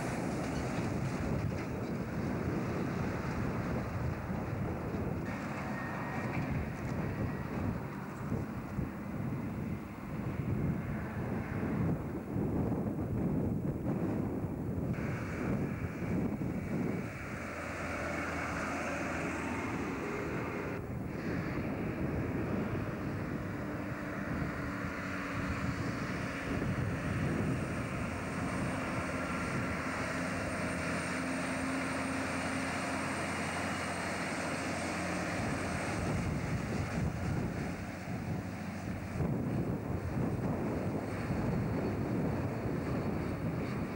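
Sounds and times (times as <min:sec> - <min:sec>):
truck diesel engine droning: 0:00.0 - 0:43.9
wind buffeting microphone: 0:00.0 - 0:43.9.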